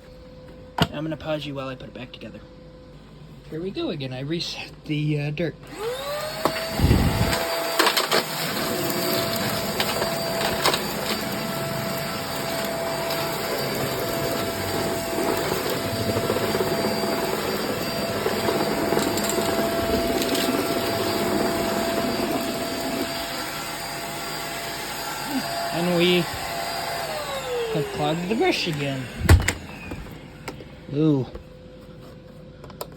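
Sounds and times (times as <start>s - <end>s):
vacuum cleaner whining: 5.6s - 32.6s.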